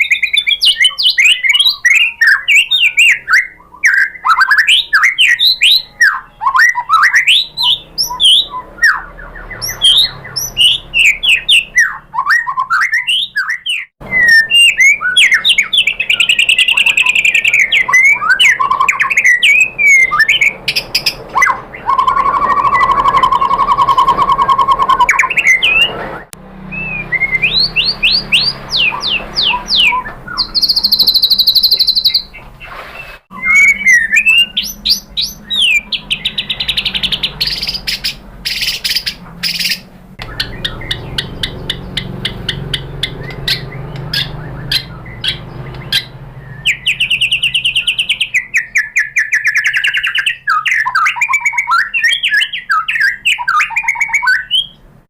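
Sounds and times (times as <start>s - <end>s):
bird singing whistles and trills: 0.0s - 32.4s, 33.0s - 54.8s.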